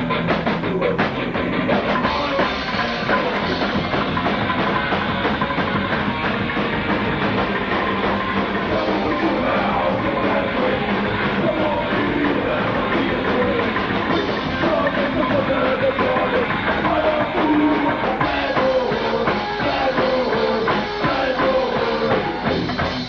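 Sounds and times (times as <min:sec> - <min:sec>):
band playing loud and fast: 0:00.0 - 0:23.0
driving drum beat: 0:00.0 - 0:23.0.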